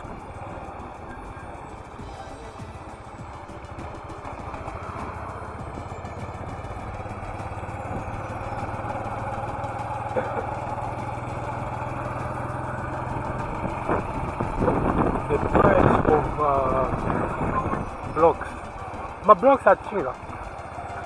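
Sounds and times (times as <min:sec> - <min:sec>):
motorcycle engine humming: 0:00.0 - 0:21.0.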